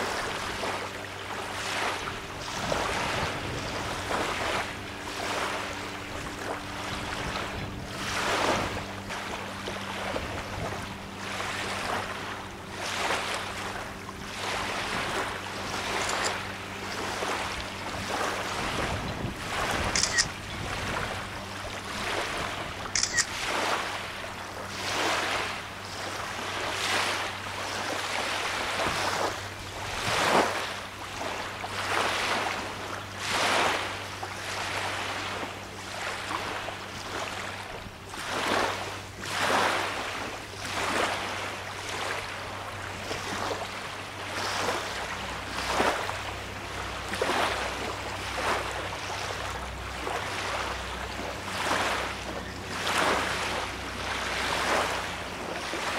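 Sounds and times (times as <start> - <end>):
waves lapping at shore: 0.0 - 55.9.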